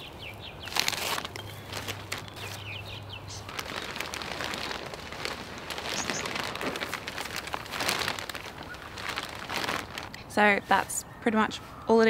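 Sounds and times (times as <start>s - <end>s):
plastic sheeting rustling: 0.0s - 11.0s.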